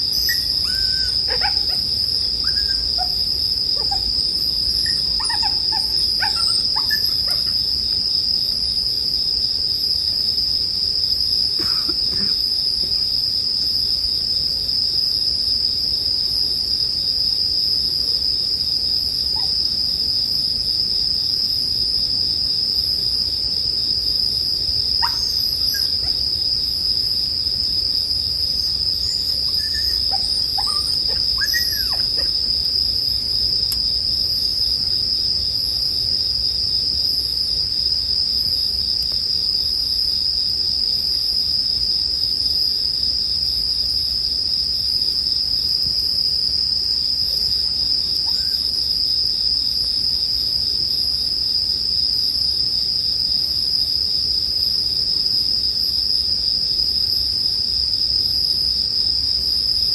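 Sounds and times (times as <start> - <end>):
crickets singing: 0.0 - 59.9.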